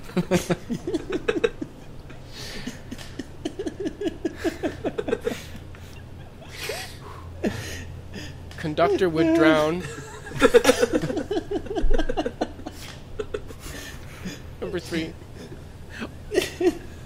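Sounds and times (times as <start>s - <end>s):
people laughing: 0.0s - 17.0s.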